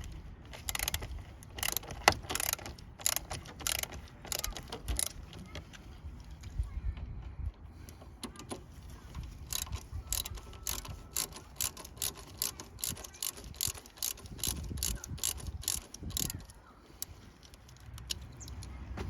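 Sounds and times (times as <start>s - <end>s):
ratchet wrench clicking: 0.0s - 5.6s, 8.2s - 18.7s.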